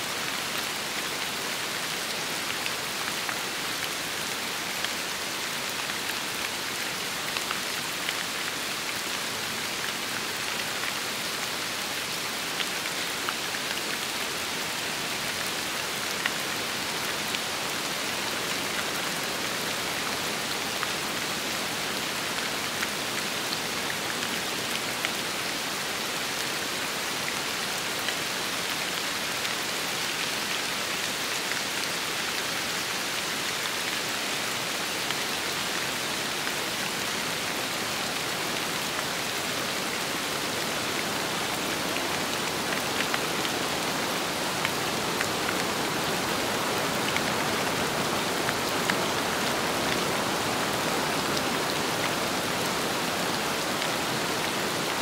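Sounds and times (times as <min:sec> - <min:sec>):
rain: 0:00.0 - 0:55.0
wind: 0:00.0 - 0:55.0.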